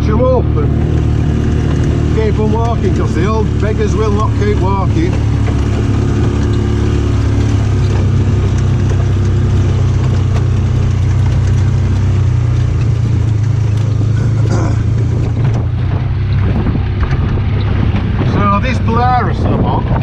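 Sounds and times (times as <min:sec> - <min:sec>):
farm vehicle engine running: 0:00.0 - 0:20.0.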